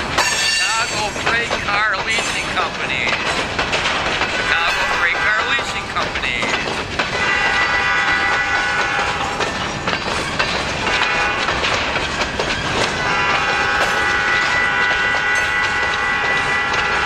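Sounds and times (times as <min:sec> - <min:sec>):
freight train rumbling past: 0:00.0 - 0:17.0
wheels clicking over rail joints: 0:00.0 - 0:17.0.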